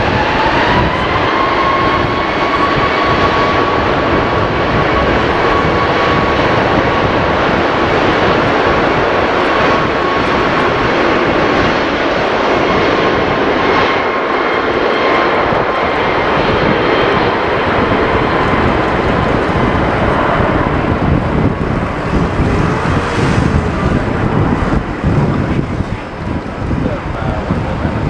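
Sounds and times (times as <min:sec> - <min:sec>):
high engine whines: 0:00.0 - 0:27.9
jet engines at high power: 0:00.0 - 0:28.0.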